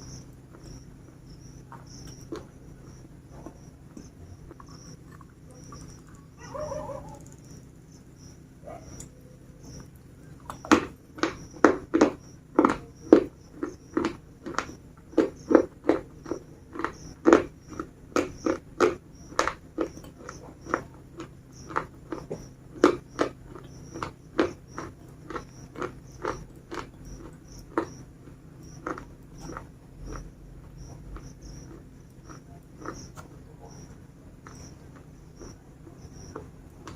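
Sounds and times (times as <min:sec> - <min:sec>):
biscuits crunching when chewed: 0:00.3 - 0:07.7, 0:08.8 - 0:36.9.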